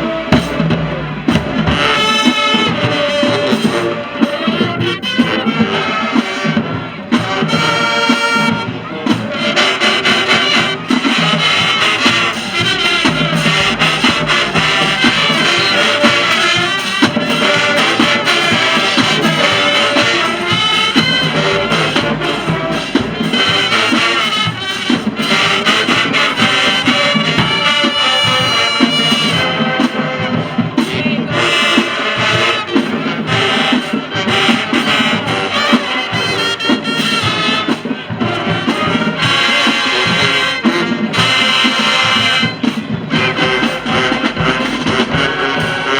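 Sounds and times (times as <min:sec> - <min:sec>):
marching band playing: 0:00.0 - 0:45.9.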